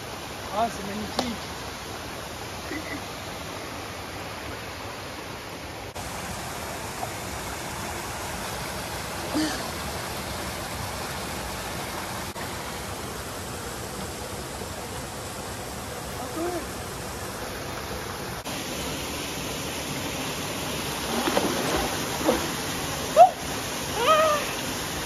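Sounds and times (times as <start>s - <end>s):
mountain stream running: 0.0s - 25.0s
small waterfall: 0.0s - 25.0s.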